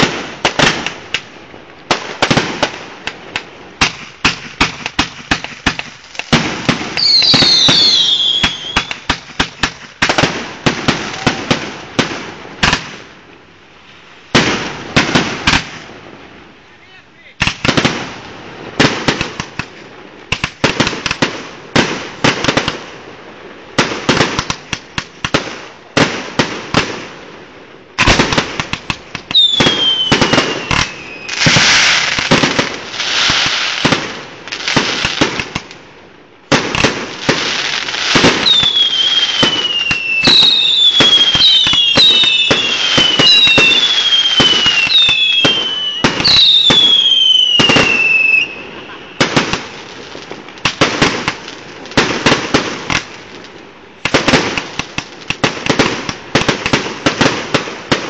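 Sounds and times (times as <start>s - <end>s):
whistling fireworks: 0.0s - 13.1s, 16.9s - 23.1s, 28.0s - 35.8s, 36.4s - 58.0s
firework bangs: 0.0s - 13.3s, 14.3s - 16.3s, 17.4s - 58.0s
fireworks crackling: 0.0s - 58.0s.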